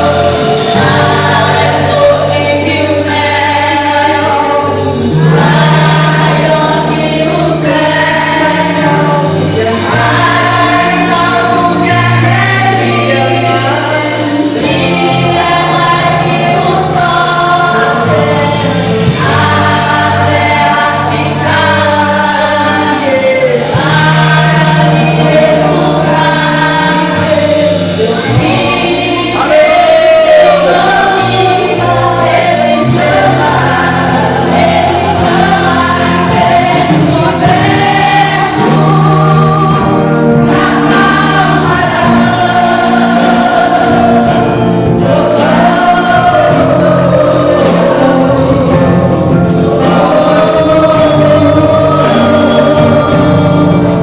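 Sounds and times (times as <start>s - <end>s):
choir singing a hymn: 0.0s - 54.0s
instrumental backing with bass line: 0.0s - 54.0s
percussion beat: 0.0s - 54.0s.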